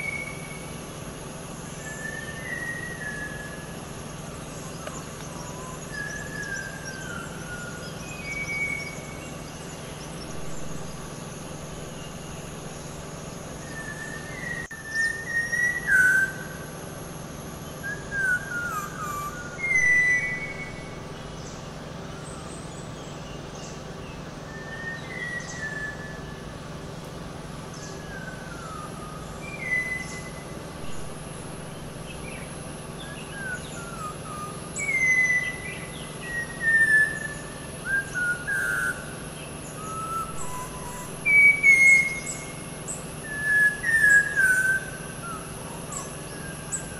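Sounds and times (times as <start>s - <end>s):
thrush singing clear whistles: 0.0s - 16.8s, 17.6s - 26.8s, 27.7s - 46.9s.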